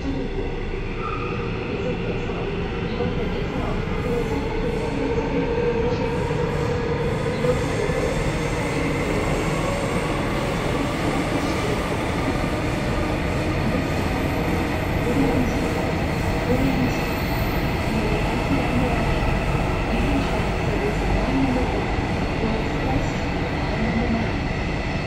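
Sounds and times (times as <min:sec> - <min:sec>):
train running through tunnel: 0:00.0 - 0:25.0.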